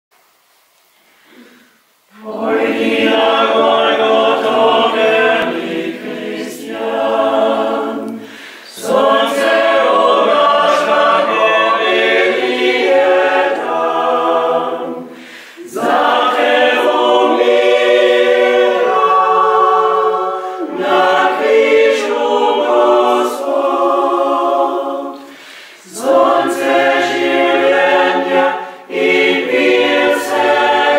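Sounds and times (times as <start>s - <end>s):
mixed choir singing a hymn: 2.1s - 30.9s.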